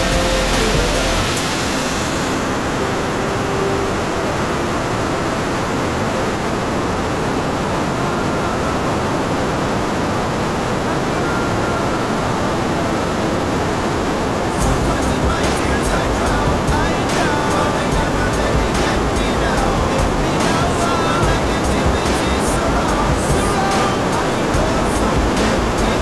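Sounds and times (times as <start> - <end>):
static-like rushing noise: 0.0 - 26.0.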